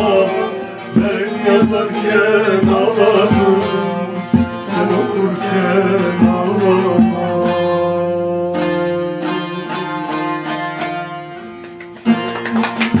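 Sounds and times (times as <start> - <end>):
plucked long-necked lute: 0.0 - 13.0.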